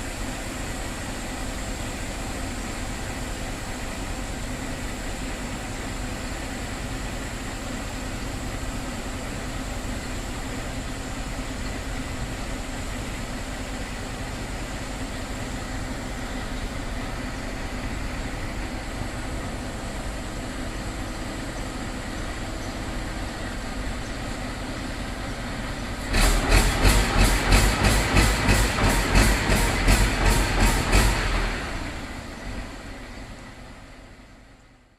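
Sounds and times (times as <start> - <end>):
truck engine humming: 0.0 - 34.9.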